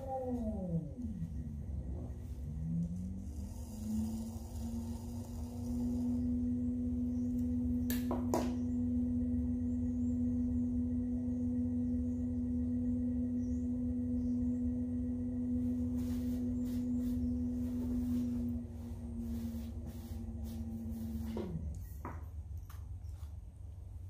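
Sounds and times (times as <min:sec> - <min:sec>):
pottery wheel motor humming: 0:00.0 - 0:24.0.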